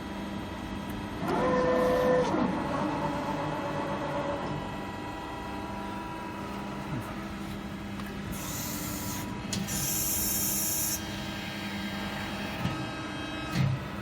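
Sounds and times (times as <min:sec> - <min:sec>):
machine hum: 0:00.3 - 0:14.0.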